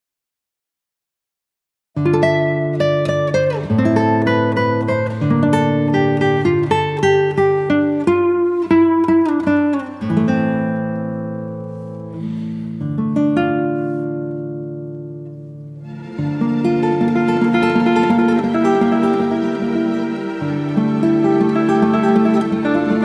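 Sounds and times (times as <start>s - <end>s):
guitar music with bass: 2.0s - 23.0s.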